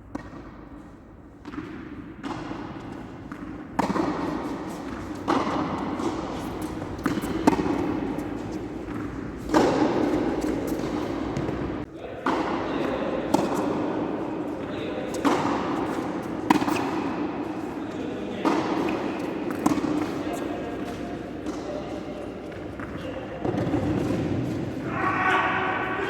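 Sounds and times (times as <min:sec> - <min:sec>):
tennis ball struck by rackets: 0:01.4 - 0:13.9, 0:15.0 - 0:17.7, 0:18.4 - 0:24.8.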